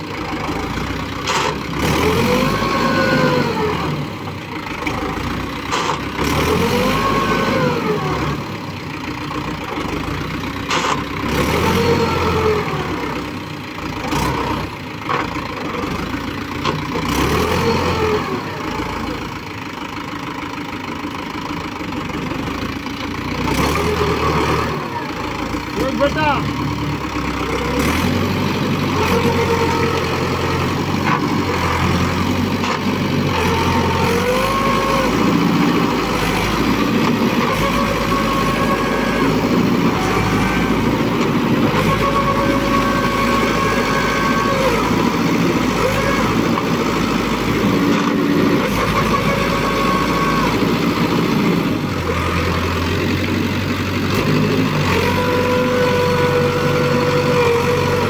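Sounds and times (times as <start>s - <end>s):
diesel tractor engine revving: 0.0s - 58.0s.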